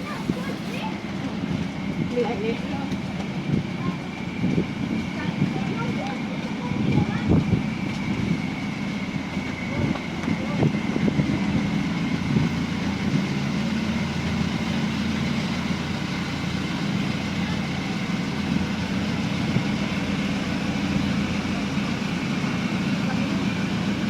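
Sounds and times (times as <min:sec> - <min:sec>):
large engine droning: 0:00.0 - 0:24.0.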